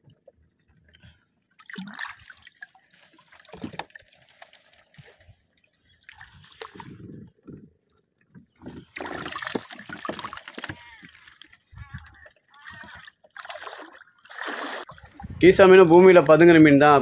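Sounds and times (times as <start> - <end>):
shallow water splashing: 0.0 - 7.5, 8.4 - 16.6.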